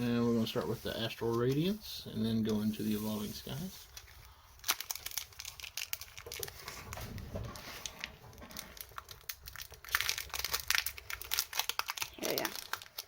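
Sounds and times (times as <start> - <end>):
foil wrapper crinkling: 2.4 - 13.0.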